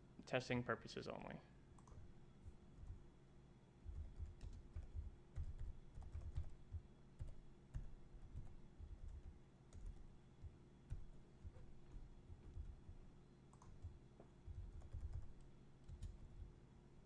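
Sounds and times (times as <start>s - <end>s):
computer keyboard typing: 1.8s - 3.0s, 3.9s - 16.4s.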